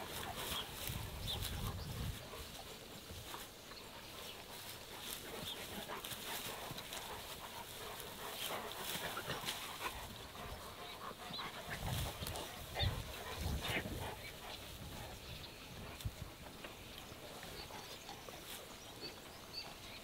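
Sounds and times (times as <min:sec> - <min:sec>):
dogs panting: 0:00.0 - 0:20.0.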